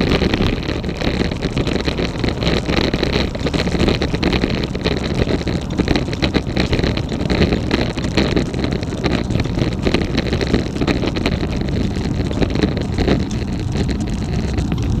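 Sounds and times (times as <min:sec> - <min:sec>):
bike clicking: 0:00.0 - 0:15.0
rolling road noise: 0:00.0 - 0:15.0
wind buffeting microphone: 0:00.0 - 0:15.0.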